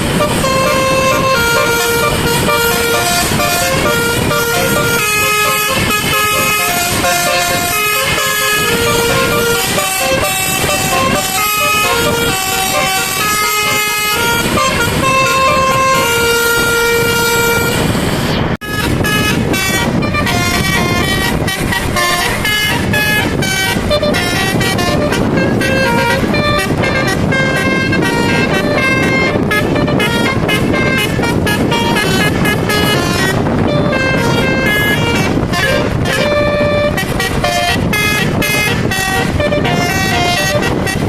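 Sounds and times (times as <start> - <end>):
musical air horn playing a tune: 0.0 - 41.0.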